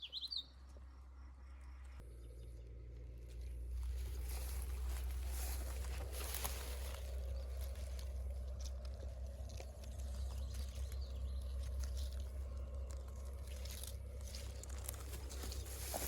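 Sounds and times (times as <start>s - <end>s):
steady low rumble: 0.6s - 16.0s
dry vegetation crunching: 2.7s - 16.0s.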